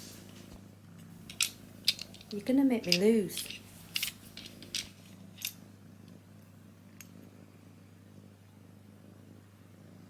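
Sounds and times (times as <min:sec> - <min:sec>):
cat purring: 0:00.0 - 0:10.0.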